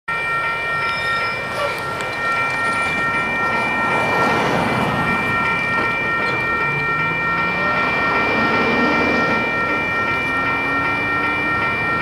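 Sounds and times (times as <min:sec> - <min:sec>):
crossing warning bell ringing: 0:00.1 - 0:12.0.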